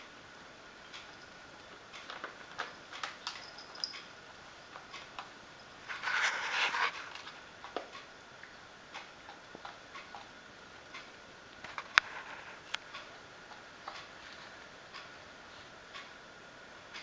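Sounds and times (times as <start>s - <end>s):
puppies gnawing chew bone: 0.8s - 14.6s.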